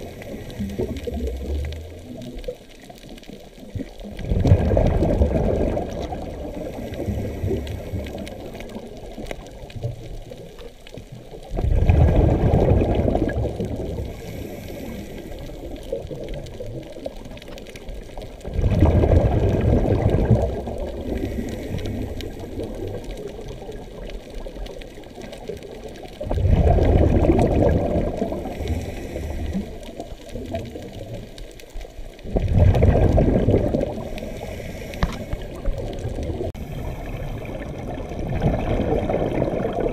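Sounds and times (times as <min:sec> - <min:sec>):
diver exhaling bubbles: 0:00.0 - 0:02.6, 0:03.8 - 0:09.5, 0:11.4 - 0:17.3, 0:18.4 - 0:23.8, 0:26.2 - 0:31.2, 0:32.2 - 0:39.9.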